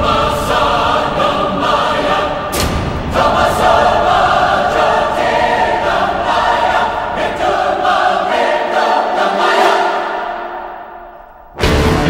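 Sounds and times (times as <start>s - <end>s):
choir singing sustained chords: 0.0s - 12.0s.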